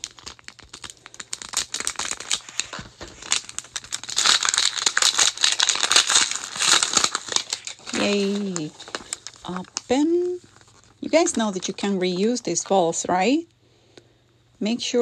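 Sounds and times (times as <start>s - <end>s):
plastic wrap crinkling and tearing: 0.0s - 13.1s.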